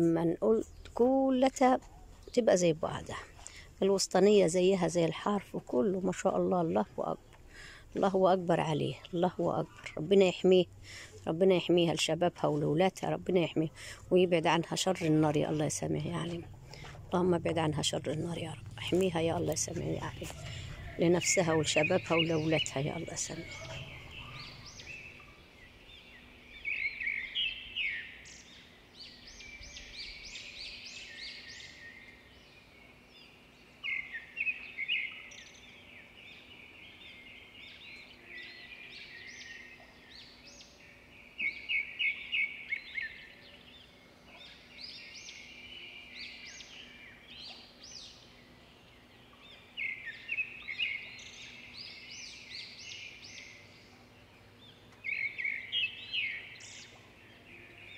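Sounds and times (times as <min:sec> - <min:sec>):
faint steady low hum: 0:00.0 - 0:57.9
small birds chirping: 0:00.0 - 0:57.9.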